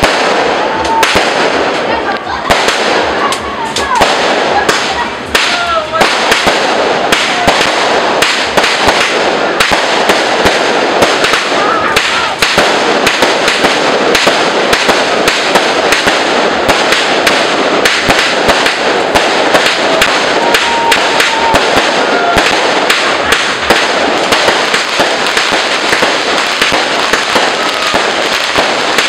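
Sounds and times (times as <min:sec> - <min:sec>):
firecrackers crackling and banging: 0:00.0 - 0:29.0.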